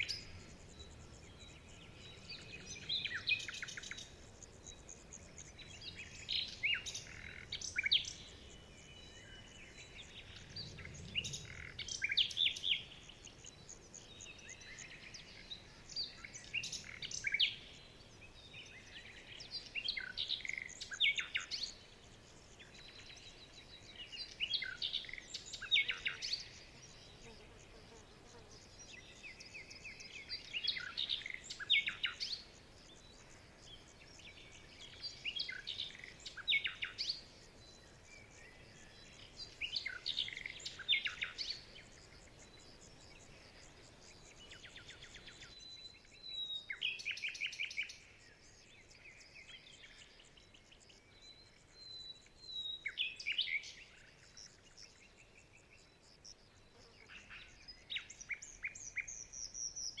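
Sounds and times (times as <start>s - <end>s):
songbirds singing: 0.0s - 60.0s.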